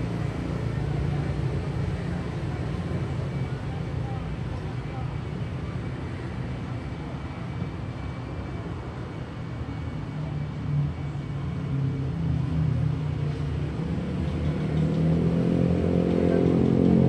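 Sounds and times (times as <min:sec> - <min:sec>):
street traffic: 0:00.0 - 0:17.0
vehicle engine hum approaching: 0:00.0 - 0:17.0.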